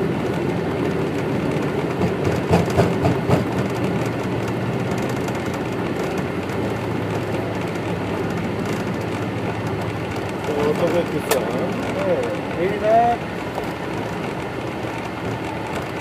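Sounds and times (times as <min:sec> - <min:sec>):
jet engines rumbling: 0:00.0 - 0:16.0
wheels running on runway: 0:00.0 - 0:16.0.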